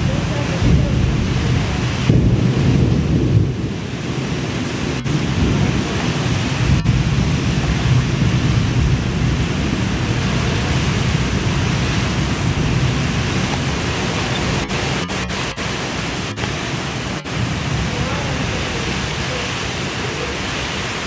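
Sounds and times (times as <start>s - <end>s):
wind buffeting microphone: 0.0s - 21.0s
wind rushing hiss: 0.0s - 21.0s.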